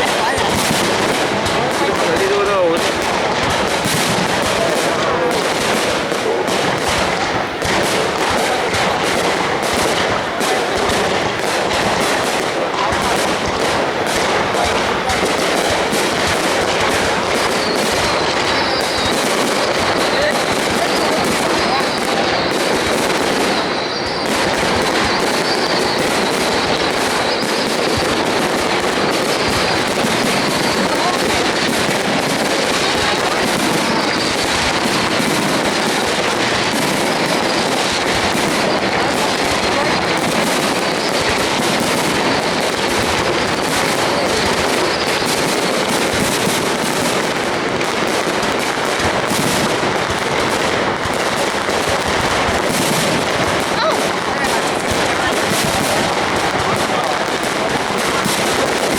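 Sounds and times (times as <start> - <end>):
crowd murmuring: 0.0 - 58.9
fireworks bursting and crackling: 0.0 - 58.9.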